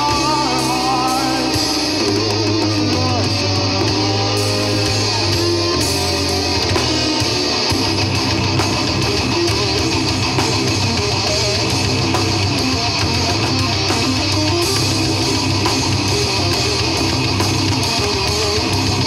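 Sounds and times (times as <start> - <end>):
heavy metal band playing live: 0.0 - 19.0
strummed electric guitar: 0.0 - 19.0.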